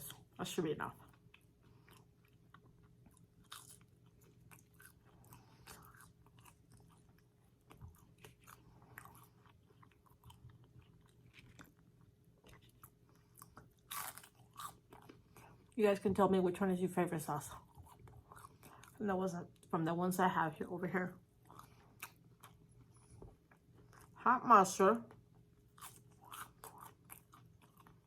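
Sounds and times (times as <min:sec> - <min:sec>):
faint close-up chewing: 0:00.0 - 0:15.8, 0:17.4 - 0:19.8, 0:21.2 - 0:24.3, 0:25.0 - 0:28.0.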